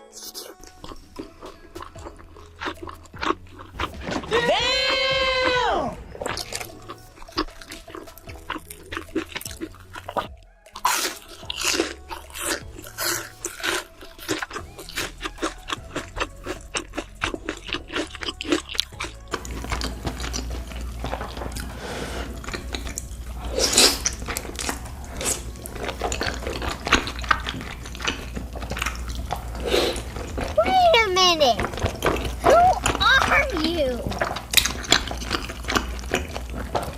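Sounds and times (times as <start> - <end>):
wet noisy chewing: 0.0 - 36.9
crunchy bites: 0.3 - 36.9.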